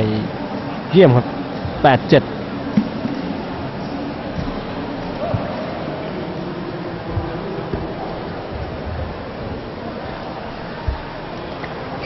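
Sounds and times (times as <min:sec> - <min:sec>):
crowd murmur: 0:00.0 - 0:12.0.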